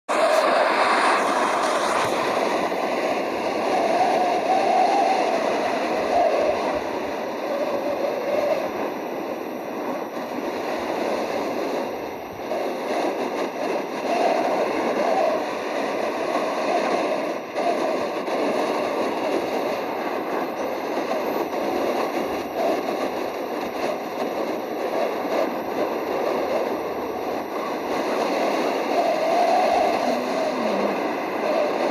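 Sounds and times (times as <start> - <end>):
tornado wind roar: 0.1 - 31.9.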